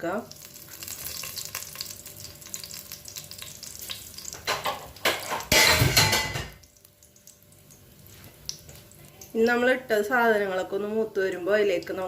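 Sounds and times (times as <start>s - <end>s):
spices sizzling in hot ghee: 0.0s - 12.0s.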